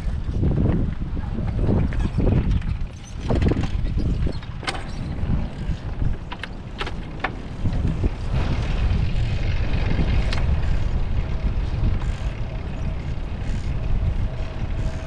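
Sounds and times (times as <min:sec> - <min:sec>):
bicycle clicks and rattles: 0:00.0 - 0:15.0
wind and tyre rumble: 0:00.0 - 0:15.0.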